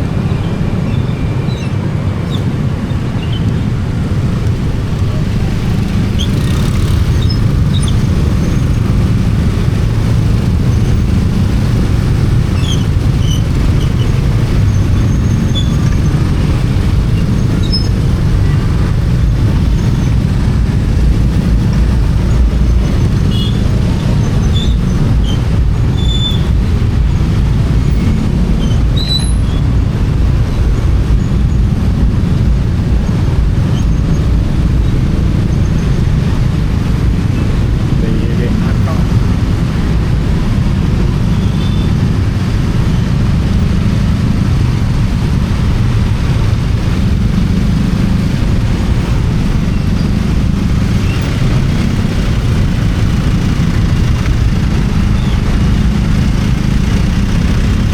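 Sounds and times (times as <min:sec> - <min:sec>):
motorcycle engine rumble: 0:00.0 - 0:57.9
road noise: 0:00.0 - 0:57.9.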